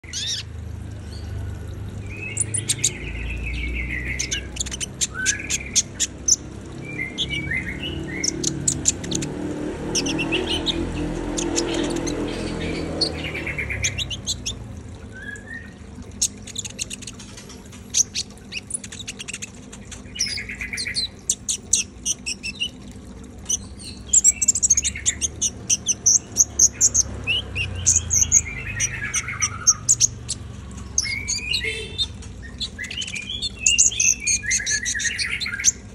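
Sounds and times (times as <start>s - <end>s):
sunbird singing high chirps and trills: 0.0s - 35.9s.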